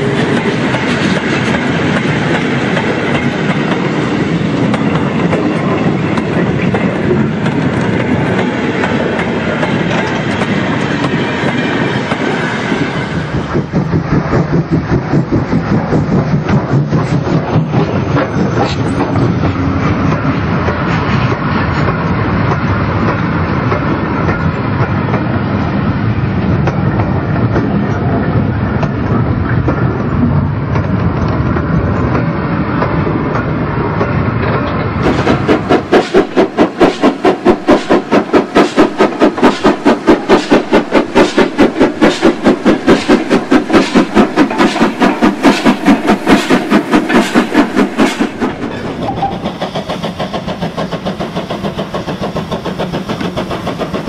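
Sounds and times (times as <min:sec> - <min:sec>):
model train wagons rumbling and clicking: 0:00.0 - 0:54.0
steam locomotive chuffing: 0:00.0 - 0:54.0.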